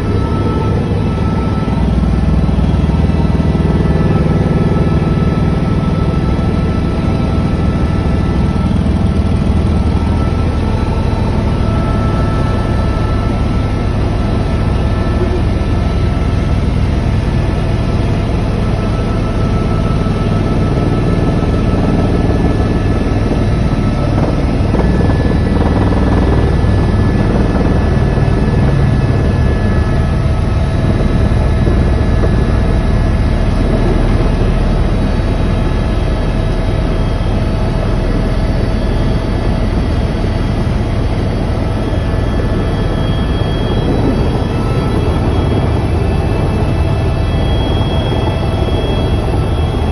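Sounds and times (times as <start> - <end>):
helicopter engine and rotors droning: 0.0 - 49.9.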